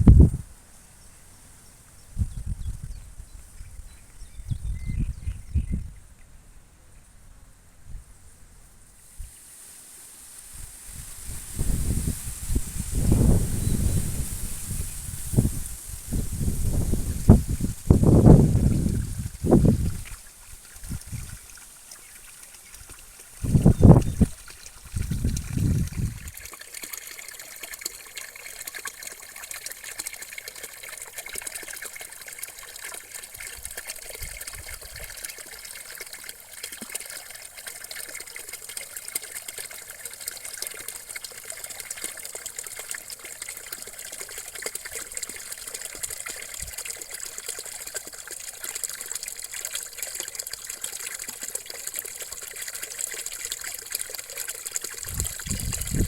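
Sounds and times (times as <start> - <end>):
water trickling: 10.8 - 56.0.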